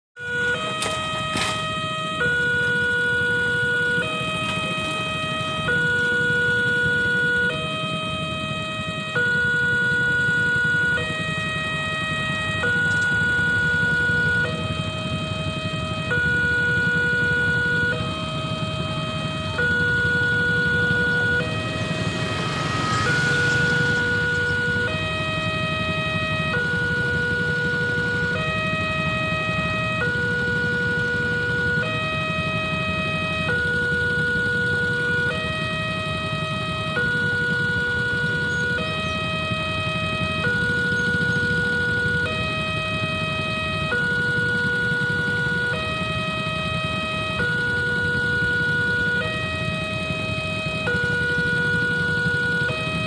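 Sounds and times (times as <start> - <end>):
two-tone crossing alarm: 0.2 - 53.0
motorcycles idling: 0.4 - 53.0.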